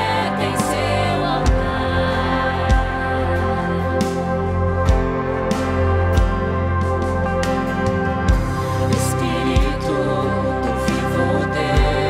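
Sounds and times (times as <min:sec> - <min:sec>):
bass: 0:00.0 - 0:12.0
keyboard chords: 0:00.0 - 0:12.0.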